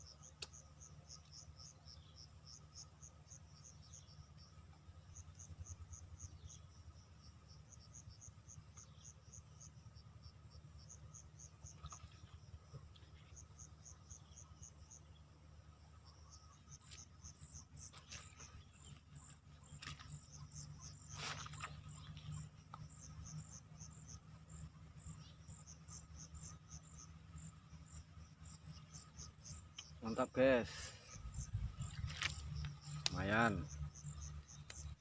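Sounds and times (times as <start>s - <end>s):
insects chirping: 0.0s - 35.0s
low steady hum: 0.0s - 35.0s.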